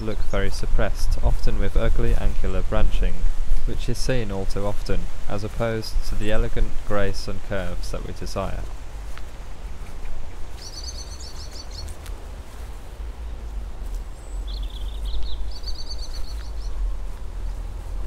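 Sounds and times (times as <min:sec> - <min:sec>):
songbird singing: 0:00.0 - 0:18.0
steady low rumble: 0:00.0 - 0:18.0.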